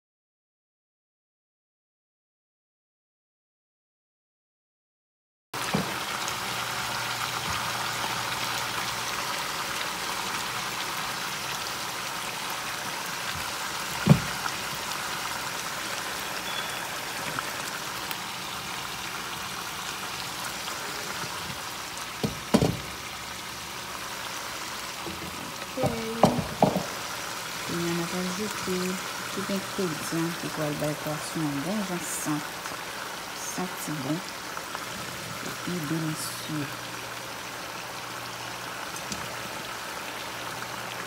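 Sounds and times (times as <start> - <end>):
fish frying in oil: 5.6 - 41.0.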